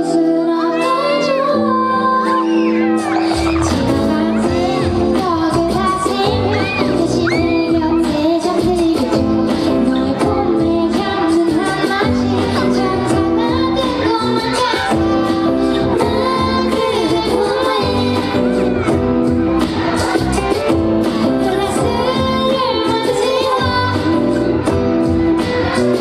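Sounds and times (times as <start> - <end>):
woman singing into microphone: 0.0 - 19.0, 21.1 - 26.0
full band backing: 0.0 - 26.0.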